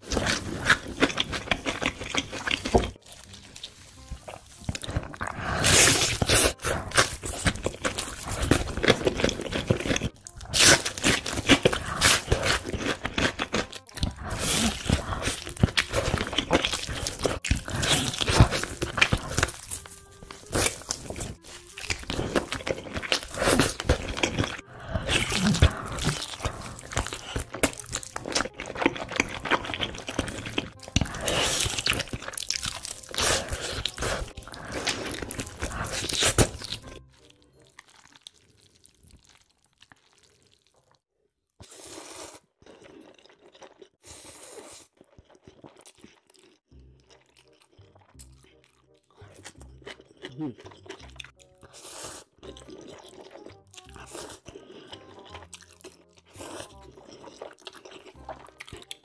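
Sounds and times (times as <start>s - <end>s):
chewing: 0.0s - 41.0s, 44.8s - 59.0s
crunching fried chicken: 0.0s - 41.0s, 44.8s - 59.0s.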